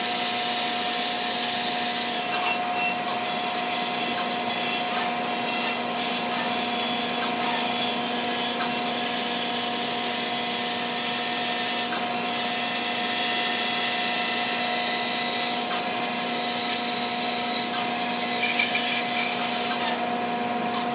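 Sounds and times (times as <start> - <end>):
bandsaw blade hissing through wood: 0.0 - 20.0
bandsaw motor hum: 0.0 - 20.9.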